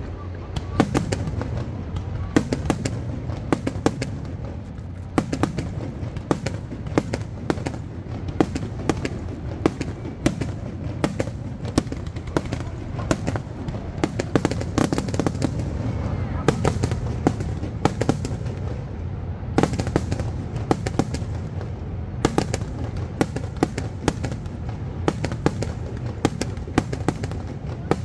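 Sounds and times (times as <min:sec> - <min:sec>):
low rumble of reports: 0:00.0 - 0:28.0.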